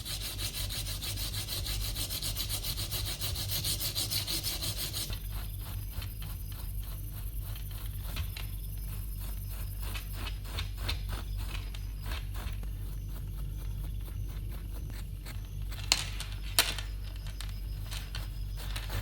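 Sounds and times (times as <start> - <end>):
hand rubbing on wood: 0.0 - 16.5
steady low hum: 0.0 - 19.0.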